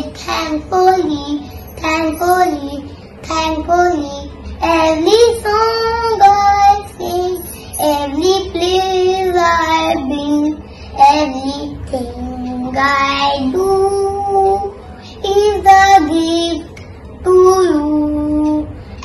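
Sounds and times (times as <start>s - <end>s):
girl singing: 0.0s - 19.0s.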